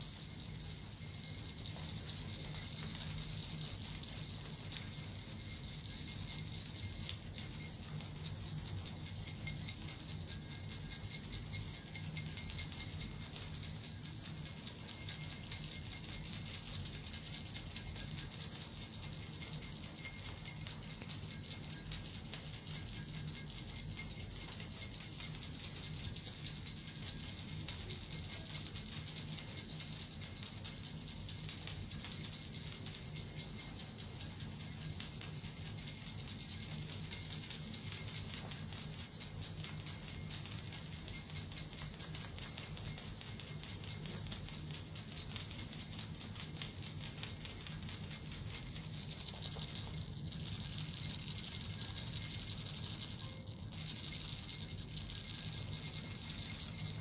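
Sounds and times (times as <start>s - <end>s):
bells and metal rattle jingling: 0.0s - 57.0s.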